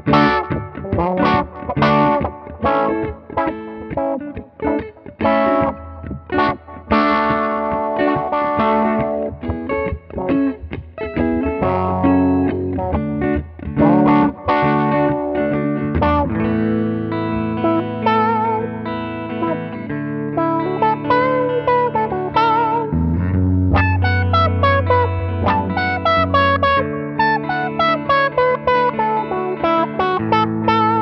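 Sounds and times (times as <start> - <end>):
electric guitars jamming: 0.0 - 31.0.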